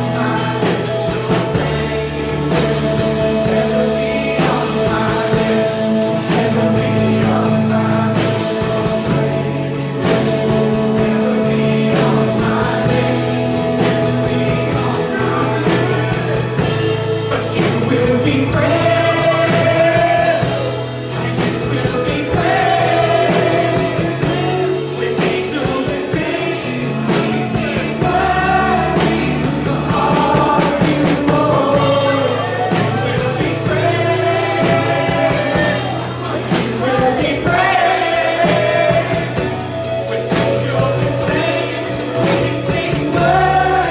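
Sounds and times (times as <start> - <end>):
keyboard or guitar chords: 0.0 - 43.9
people singing: 0.0 - 43.9
steady drums: 0.0 - 43.9.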